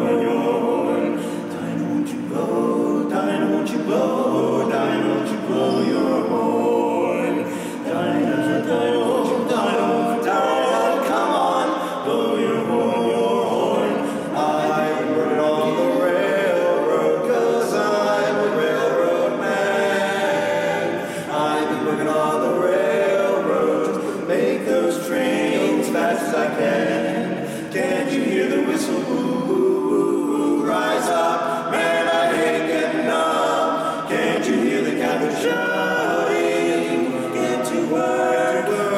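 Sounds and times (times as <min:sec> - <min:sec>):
men singing a cappella harmony: 0:00.0 - 0:38.9.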